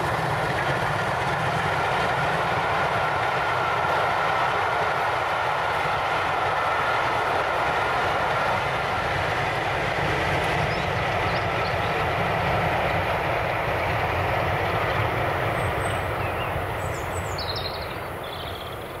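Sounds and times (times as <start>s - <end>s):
steam train running: 0.0s - 19.0s.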